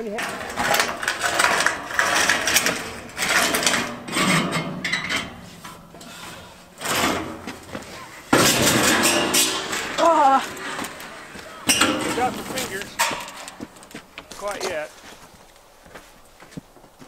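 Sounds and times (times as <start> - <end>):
metal roofing sheet rattling: 0.0 - 15.0.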